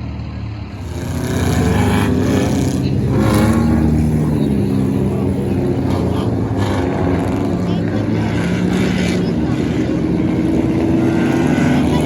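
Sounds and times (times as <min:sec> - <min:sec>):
race car engines running: 0:00.0 - 0:12.0.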